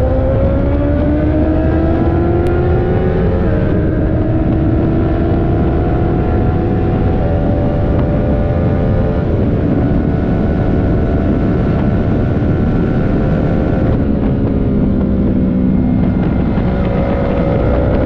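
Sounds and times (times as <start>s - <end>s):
motorcycle engine running: 0.0s - 18.0s
road and wind rumble: 0.0s - 18.0s.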